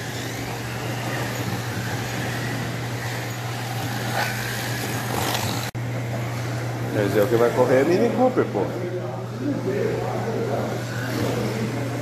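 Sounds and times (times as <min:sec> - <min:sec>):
slot car motors whining: 0:00.0 - 0:12.0
steady low hum: 0:00.0 - 0:12.0.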